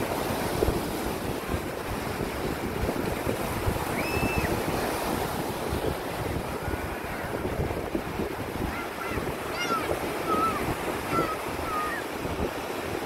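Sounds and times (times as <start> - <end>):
waves washing on sandy shore: 0.0 - 13.0
wind buffeting microphone: 0.0 - 13.0.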